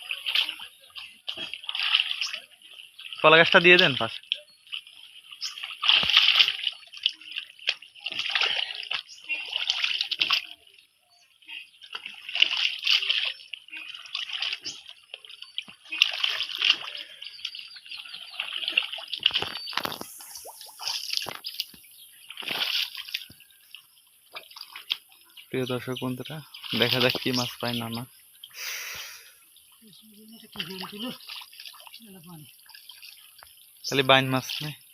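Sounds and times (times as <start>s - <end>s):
shallow water splashing: 0.0s - 34.9s.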